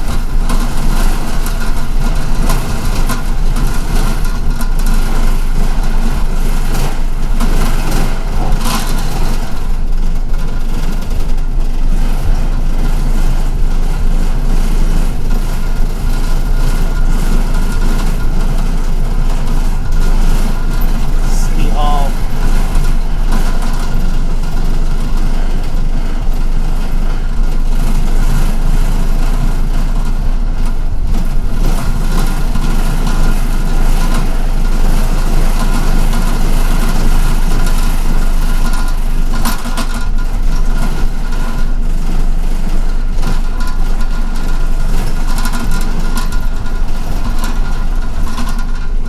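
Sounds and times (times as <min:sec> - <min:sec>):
bus engine humming: 0:00.0 - 0:49.0.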